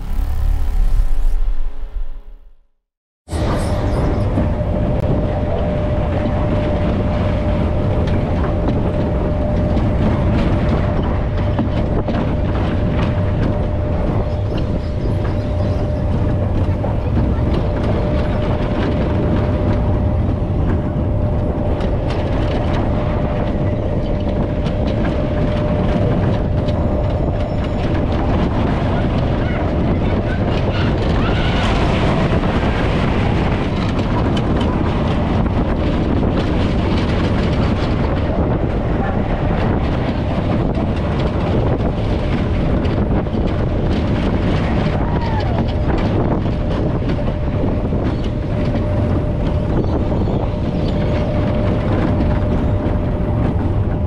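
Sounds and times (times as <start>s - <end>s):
roller coaster track rumble: 0.0s - 2.5s, 3.3s - 54.0s.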